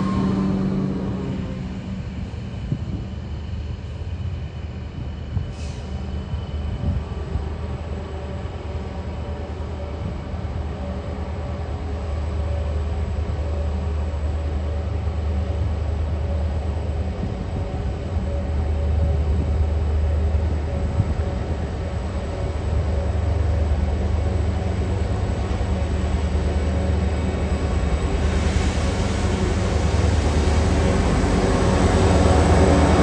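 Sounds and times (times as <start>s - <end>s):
locomotive engine drone: 0.0s - 33.0s.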